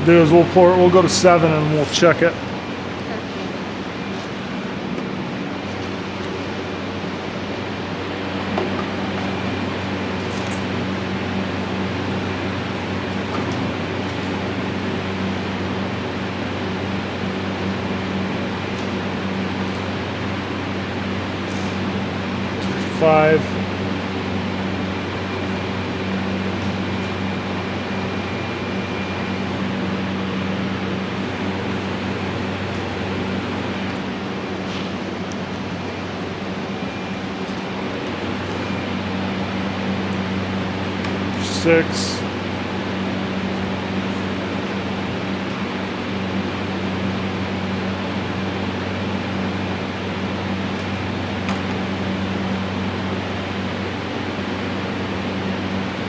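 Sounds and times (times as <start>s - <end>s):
fan motor whirring hum: 0.0s - 56.0s.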